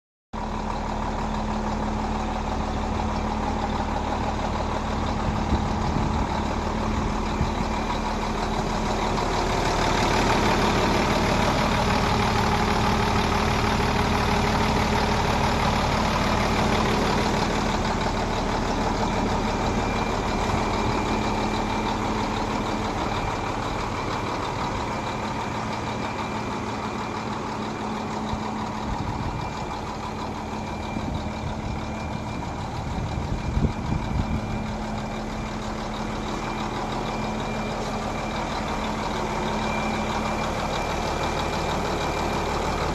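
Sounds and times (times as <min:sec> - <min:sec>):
truck engine idling: 0:00.4 - 0:42.9.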